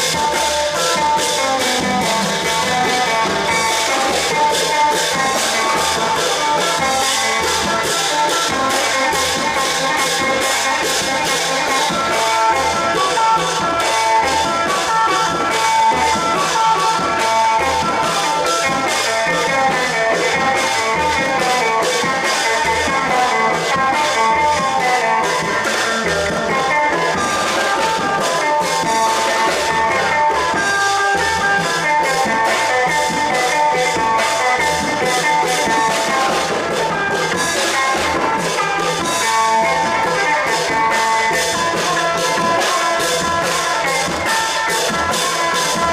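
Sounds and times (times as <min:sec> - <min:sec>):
steady drum beat: 0:00.0 - 0:45.9.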